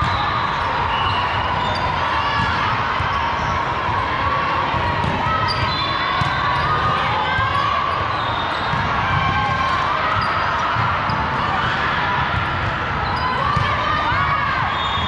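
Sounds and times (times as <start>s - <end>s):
volleyballs bouncing and hit: 0.0s - 7.7s, 8.7s - 14.6s
echoing din of voices: 0.0s - 15.0s.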